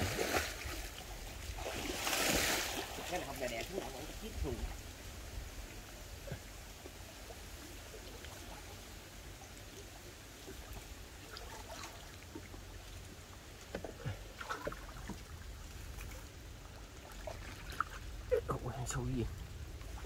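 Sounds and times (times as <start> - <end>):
small water splashes: 0.0 - 20.0
water trickling: 0.0 - 20.0.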